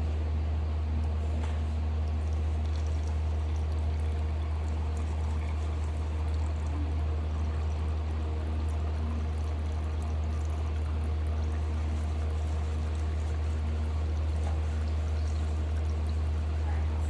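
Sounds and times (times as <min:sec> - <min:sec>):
oil trickling into a pan: 0:01.2 - 0:16.9.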